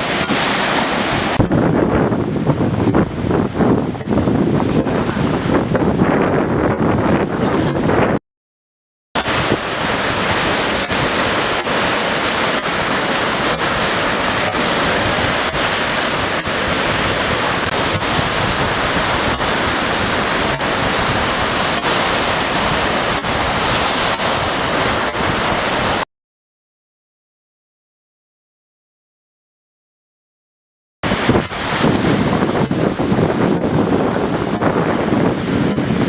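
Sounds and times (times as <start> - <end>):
sea surf: 0.0 - 8.2, 9.2 - 26.1, 31.0 - 36.0
wind: 0.0 - 8.2, 9.2 - 26.0, 31.0 - 36.0
wind buffeting microphone: 0.0 - 8.2, 9.2 - 26.0, 31.0 - 36.0.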